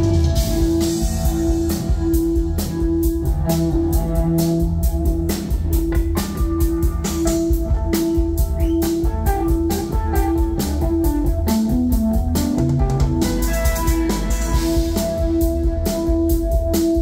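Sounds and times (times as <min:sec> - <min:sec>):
electric guitar lead notes: 0:00.0 - 0:17.0.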